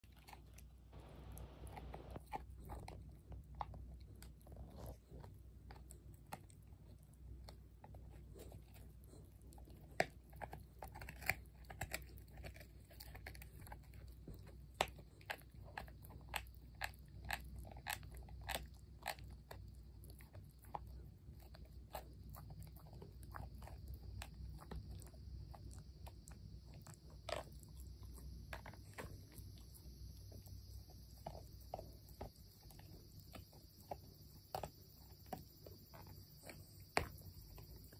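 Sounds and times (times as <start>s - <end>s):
puppy crunching a chew treat: 0.0s - 37.9s.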